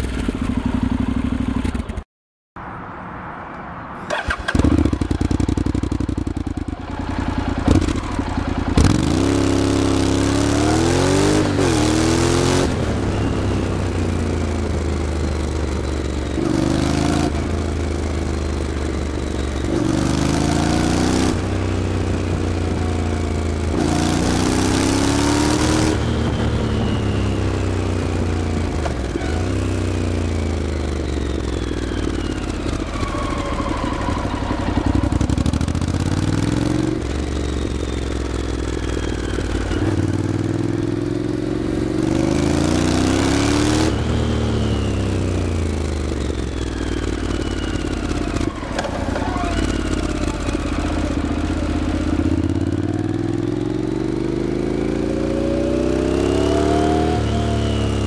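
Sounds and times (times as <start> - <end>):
motorcycle engine revving: 0.0 - 2.0, 4.1 - 58.0.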